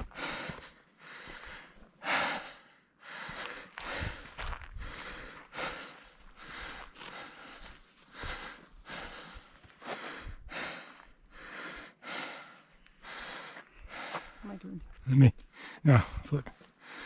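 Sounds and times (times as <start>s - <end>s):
person breathing hard: 0.0s - 14.4s, 15.5s - 17.0s.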